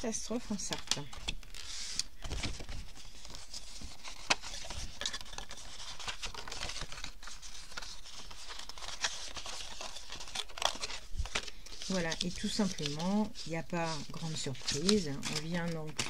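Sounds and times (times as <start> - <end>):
paper rustling and crinkling: 0.3 - 16.0.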